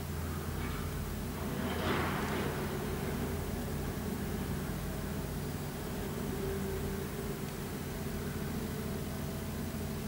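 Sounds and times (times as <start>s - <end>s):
excavator diesel engine humming: 0.0s - 10.0s.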